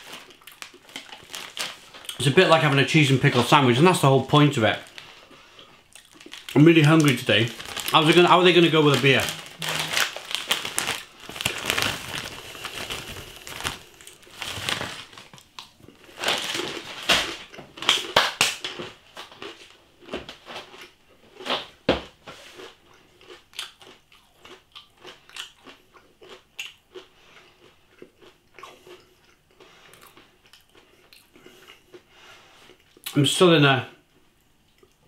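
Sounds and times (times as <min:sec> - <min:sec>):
person crunching and chewing peanuts: 0:00.0 - 0:02.2, 0:04.8 - 0:21.6, 0:22.4 - 0:33.2.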